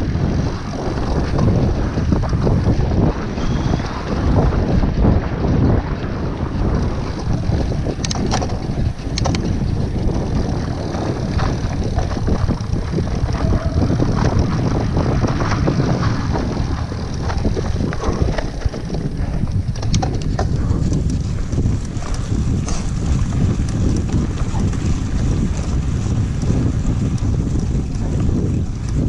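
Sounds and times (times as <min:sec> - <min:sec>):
bike clicks and rattles: 0:00.0 - 0:29.0
rumble of bike tyres and frame: 0:00.0 - 0:29.0
wind buffeting microphone: 0:00.0 - 0:29.0.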